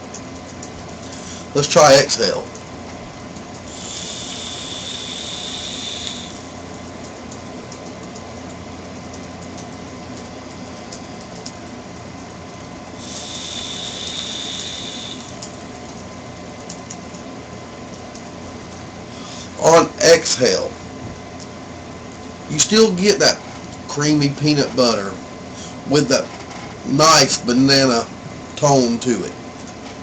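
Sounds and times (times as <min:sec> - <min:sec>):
e-liquid sizzling on coils: 0:00.0 - 0:30.0.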